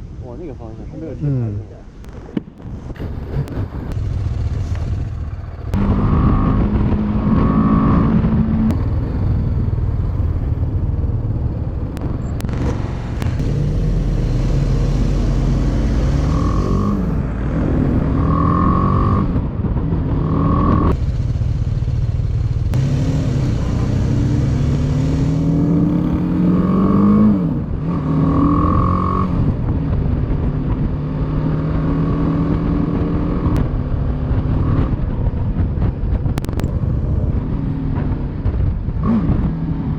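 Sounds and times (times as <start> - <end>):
motorcycle engine accelerating: 2.1 - 39.9.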